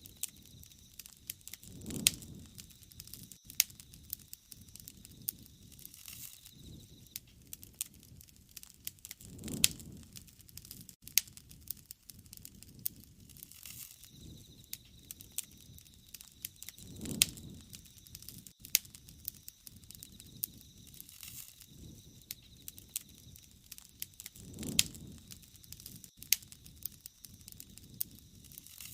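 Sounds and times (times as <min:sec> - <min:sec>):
bonfire crackling and popping: 0:00.0 - 0:28.9
rush of flame: 0:00.0 - 0:28.9.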